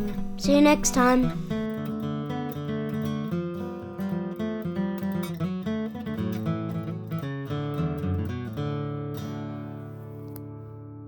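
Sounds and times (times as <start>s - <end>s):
acoustic guitar tune: 0.0s - 11.0s.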